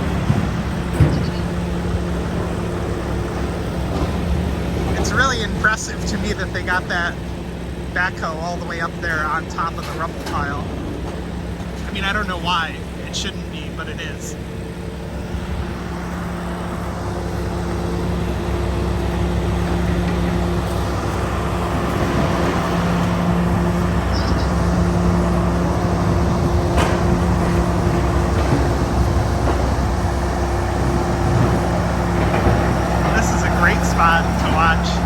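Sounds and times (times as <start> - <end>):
diesel engine humming: 0.0 - 35.0.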